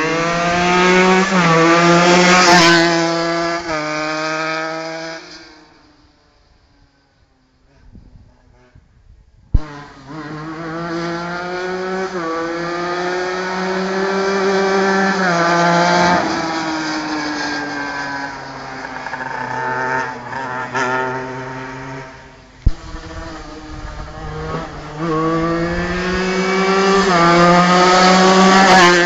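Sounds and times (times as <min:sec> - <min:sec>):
go-kart engine revving high: 0:00.0 - 0:05.9, 0:09.6 - 0:29.0.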